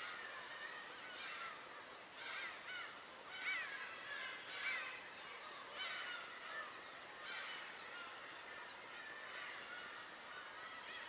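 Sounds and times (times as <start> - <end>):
birds calling harshly: 0.0 - 11.0.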